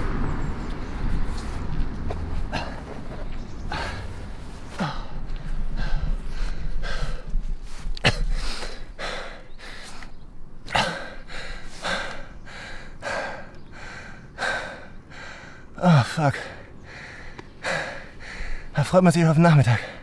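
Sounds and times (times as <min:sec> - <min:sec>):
person panting heavily: 0:02.4 - 0:18.8, 0:19.6 - 0:20.0.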